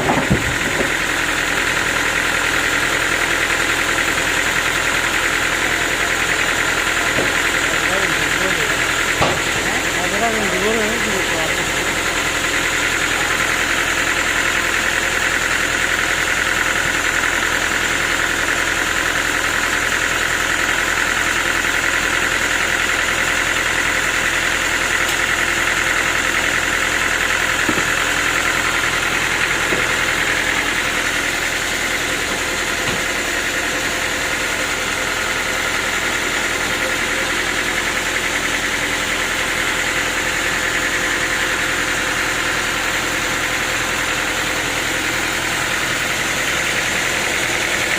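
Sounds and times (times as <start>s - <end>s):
sawmill saw droning and whining: 0.0s - 47.9s.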